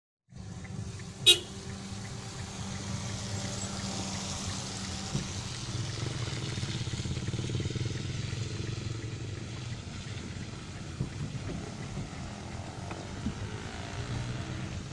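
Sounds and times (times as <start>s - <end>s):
vehicle engine humming: 0.3s - 14.9s.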